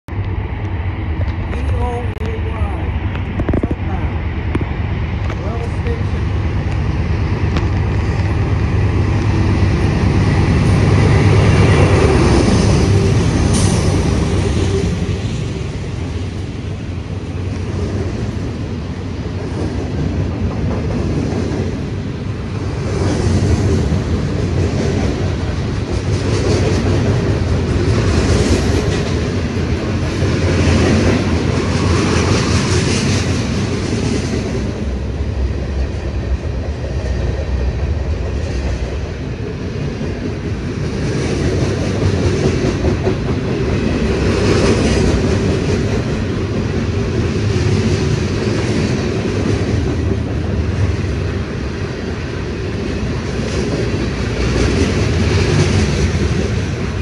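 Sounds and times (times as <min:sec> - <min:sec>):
diesel locomotives rumbling: 0:00.1 - 0:57.0
train wheels clickety-clack: 0:06.6 - 0:57.0.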